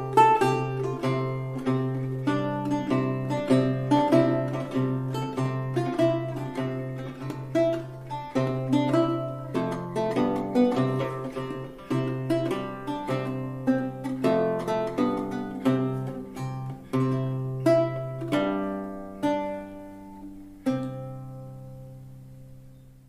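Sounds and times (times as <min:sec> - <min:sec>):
solo lute plucked melody: 0:00.0 - 0:23.0.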